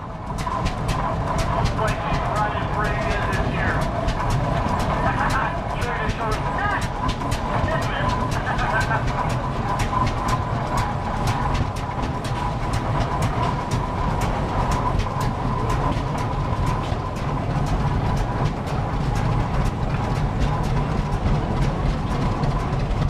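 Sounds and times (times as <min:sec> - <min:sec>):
steady high hum: 0:00.0 - 0:23.0
tractor engine running: 0:00.0 - 0:23.0.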